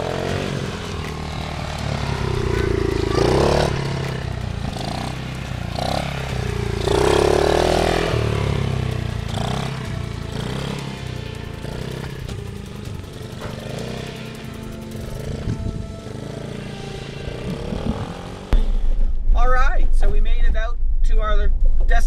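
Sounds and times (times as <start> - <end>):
dirt bike engine revving: 0.0 - 18.6
low drone: 0.0 - 22.0.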